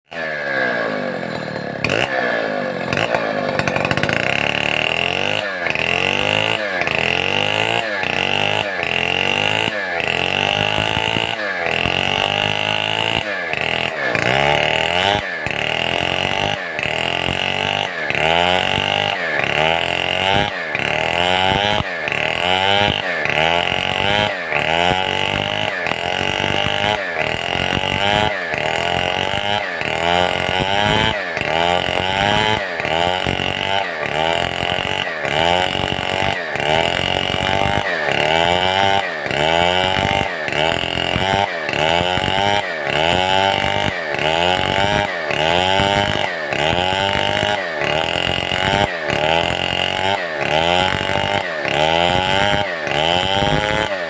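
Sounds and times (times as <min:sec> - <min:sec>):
chainsaw running at high revs: 0:00.0 - 0:54.0.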